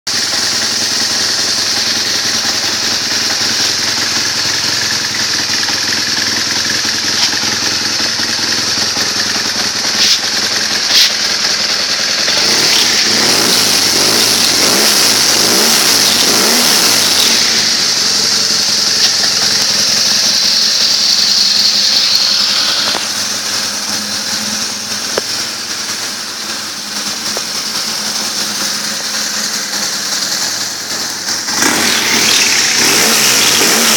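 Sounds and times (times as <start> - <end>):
motorcycle engine revving and idling: 0.0 - 33.9.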